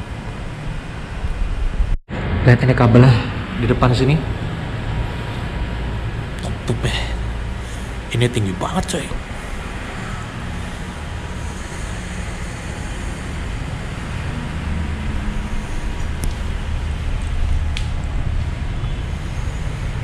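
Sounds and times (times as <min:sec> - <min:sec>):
low rumble with hiss: 0:00.0 - 0:20.0.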